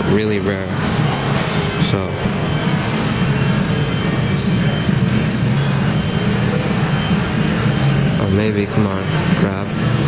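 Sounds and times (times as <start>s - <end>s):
faint machine music: 0.0s - 10.0s
low background din: 0.0s - 10.0s.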